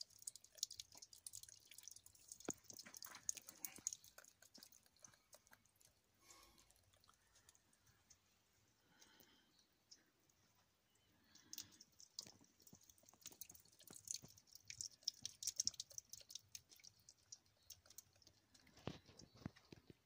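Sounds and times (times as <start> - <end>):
faint crackling and clicking: 0.0 - 8.3, 11.0 - 20.0.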